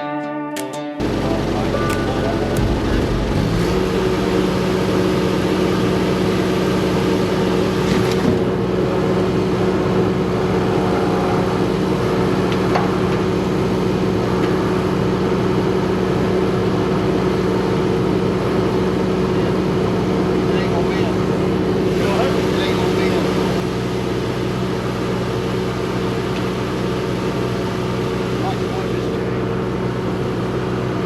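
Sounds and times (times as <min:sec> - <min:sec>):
engine humming steadily: 0:01.0 - 0:31.0.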